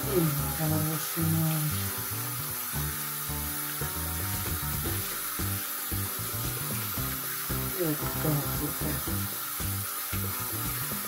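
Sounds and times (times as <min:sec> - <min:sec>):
background music sustained notes: 0:00.0 - 0:11.0
tap running into a sink: 0:00.0 - 0:11.0
water splashing: 0:00.0 - 0:11.0.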